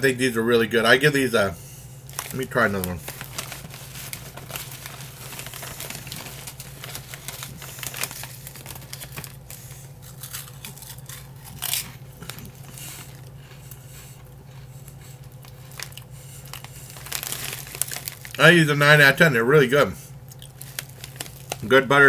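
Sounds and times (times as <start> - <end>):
chip bag crinkling: 2.0 - 22.0
chip crunching: 2.1 - 19.2, 20.2 - 22.0.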